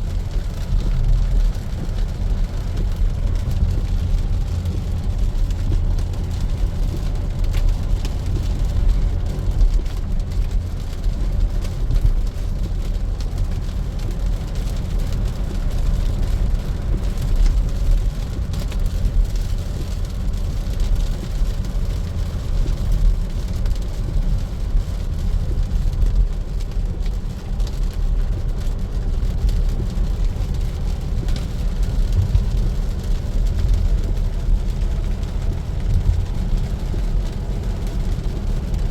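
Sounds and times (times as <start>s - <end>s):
tyre noise on wet road: 0.0s - 38.9s.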